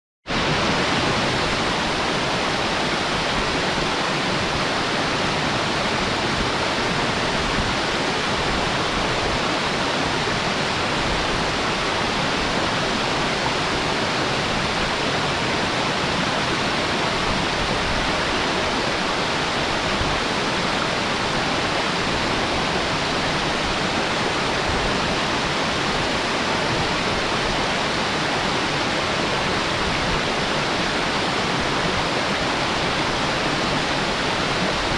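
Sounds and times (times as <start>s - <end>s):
waterfall rushing: 0.3s - 34.9s.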